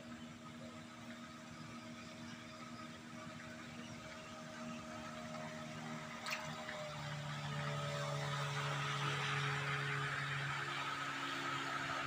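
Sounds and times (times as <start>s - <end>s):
boat engine humming: 0.0s - 12.0s
deep drone: 0.0s - 12.0s.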